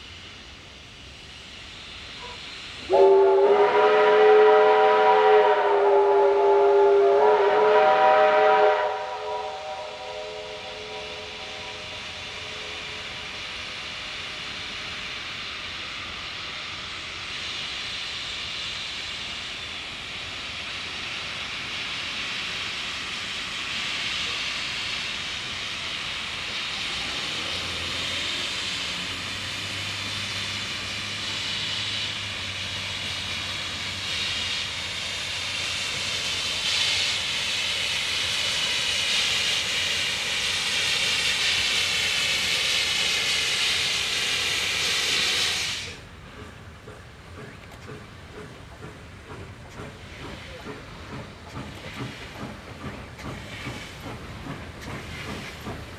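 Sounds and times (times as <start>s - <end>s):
steam hissing: 0.0s - 55.9s.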